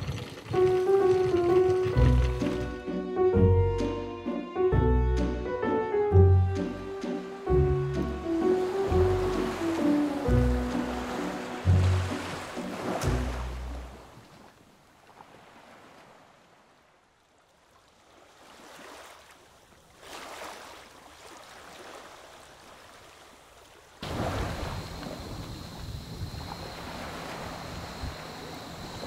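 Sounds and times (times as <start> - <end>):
waves washing: 0.0 - 3.0, 6.7 - 17.0, 17.8 - 29.0.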